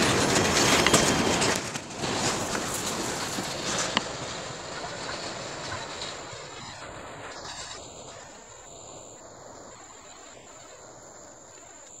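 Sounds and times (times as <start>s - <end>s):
freight train rumble: 0.0s - 12.0s
insects chirring: 0.0s - 12.0s.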